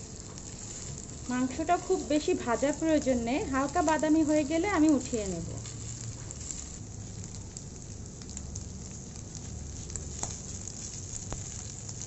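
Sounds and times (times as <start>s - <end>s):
spatula stirring in a pan: 0.0s - 7.3s, 8.8s - 12.0s
meat sizzling in a pan: 0.0s - 12.0s.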